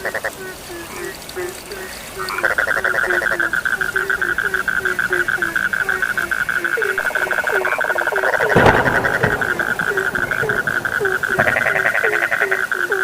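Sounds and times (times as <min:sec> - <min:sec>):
frog low croaks: 0:00.0 - 0:13.0
harsh frog call burst: 0:00.0 - 0:13.0.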